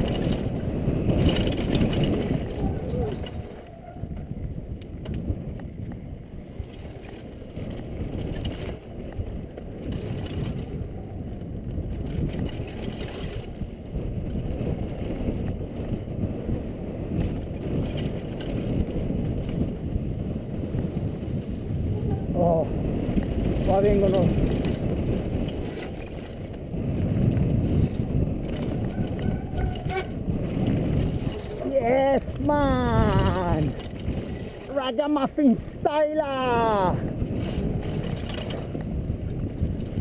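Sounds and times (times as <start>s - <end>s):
bike tyres rumbling on dirt: 0.0s - 40.0s
wind rush: 0.0s - 40.0s.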